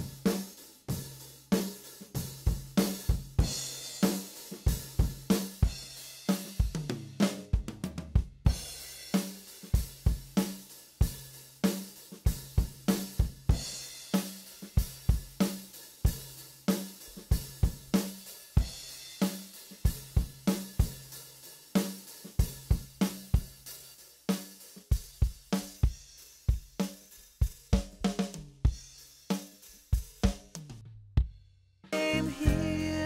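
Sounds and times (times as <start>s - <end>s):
drum kit playing a beat: 0.0s - 33.0s.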